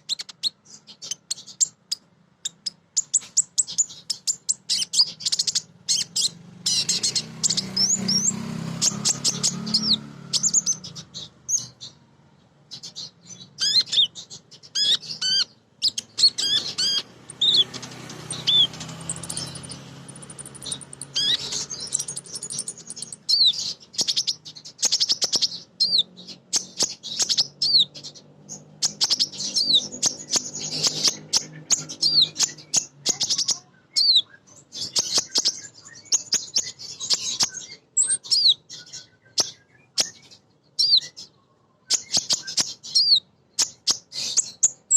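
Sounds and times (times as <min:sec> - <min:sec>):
sunbird chirping: 0:00.0 - 0:44.9.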